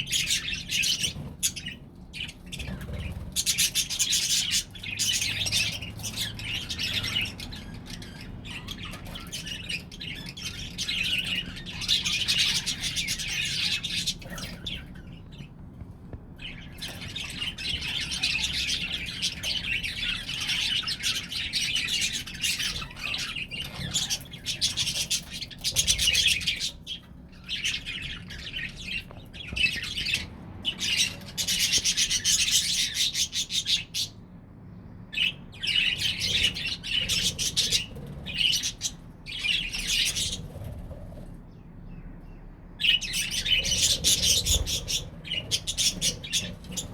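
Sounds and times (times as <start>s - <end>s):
budgerigars chattering: 0.0s - 15.5s, 16.4s - 34.1s, 35.1s - 41.0s, 42.8s - 46.9s.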